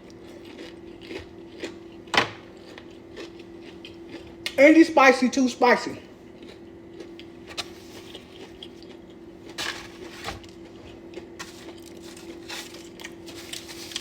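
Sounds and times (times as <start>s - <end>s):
crunchy chewing: 0.0s - 4.6s, 6.2s - 14.0s
faint steady hum: 0.0s - 14.0s.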